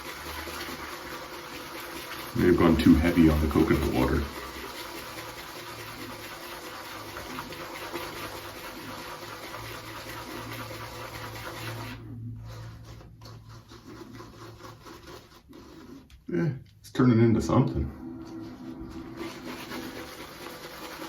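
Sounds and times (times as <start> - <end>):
shaving brush swishing in soap: 0.0 - 16.8, 18.2 - 21.0.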